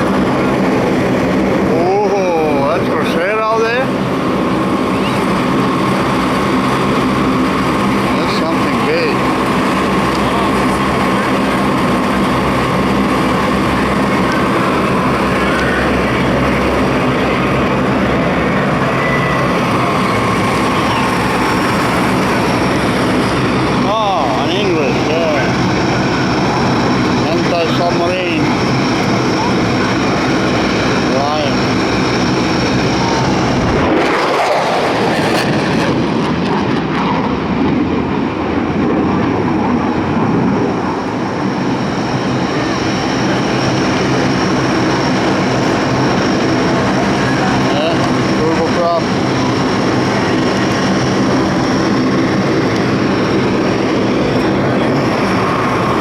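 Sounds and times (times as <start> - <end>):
loud engine drone: 0.0 - 56.0
rushing noise: 3.2 - 56.0.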